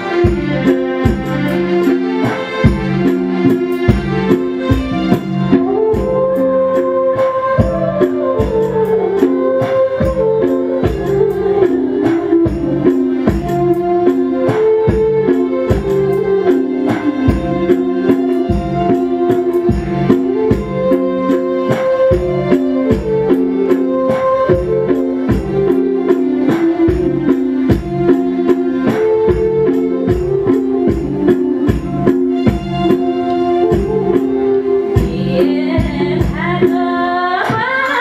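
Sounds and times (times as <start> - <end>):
jingling percussion: 0.0 - 36.9
keyboard and flute melody: 0.0 - 38.0.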